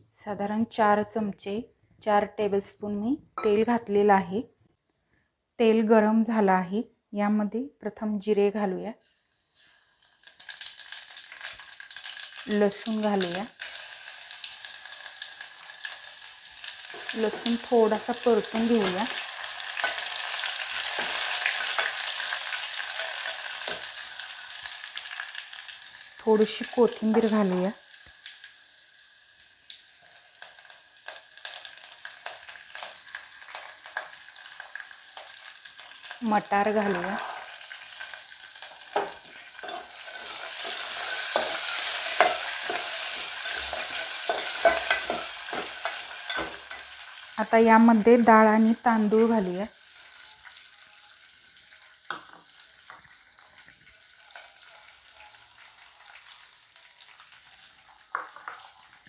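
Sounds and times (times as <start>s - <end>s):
spices sizzling in hot oil: 8.2s - 59.0s.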